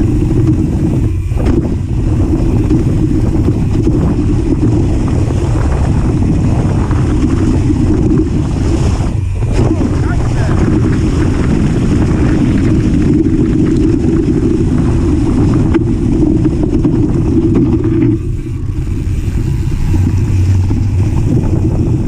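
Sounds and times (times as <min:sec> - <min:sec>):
bike rattling: 0:00.0 - 0:22.0
wind rumble on microphone: 0:00.0 - 0:22.0.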